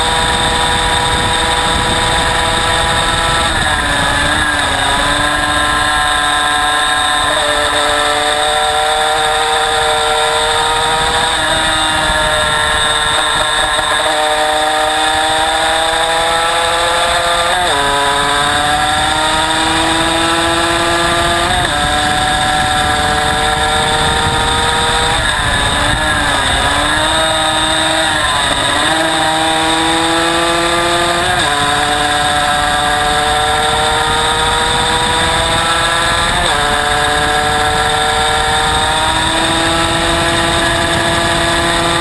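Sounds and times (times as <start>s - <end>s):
motorcycle engine running hard: 0.0s - 42.0s.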